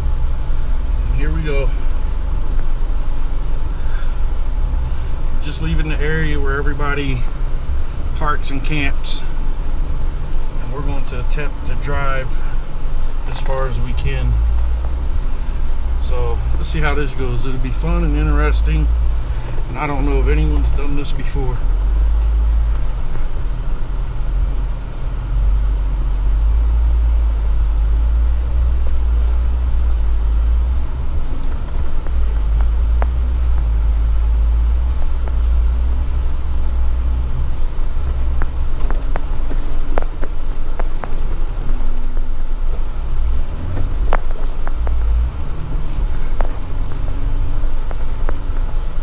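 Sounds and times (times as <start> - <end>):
engine and drivetrain rumble: 0.0 - 49.0.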